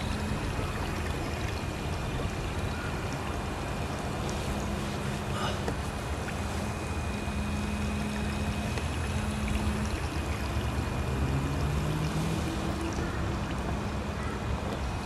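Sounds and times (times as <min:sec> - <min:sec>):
electric trolling motor running: 0:00.0 - 0:02.6, 0:03.4 - 0:12.9
water rushing along hull: 0:00.0 - 0:15.0.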